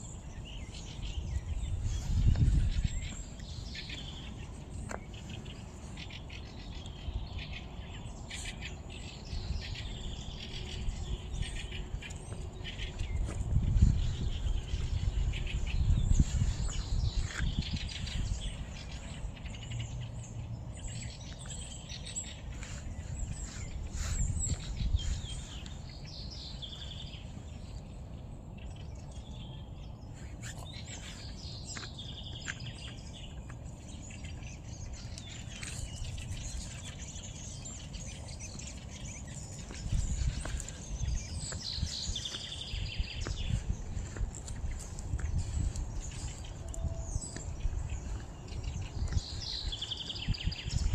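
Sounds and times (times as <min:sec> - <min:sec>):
songbirds chirping and singing: 0:00.0 - 0:50.9.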